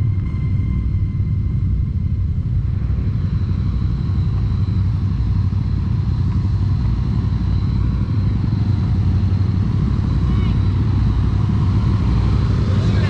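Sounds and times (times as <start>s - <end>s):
quad bike engine droning: 0.0s - 13.0s.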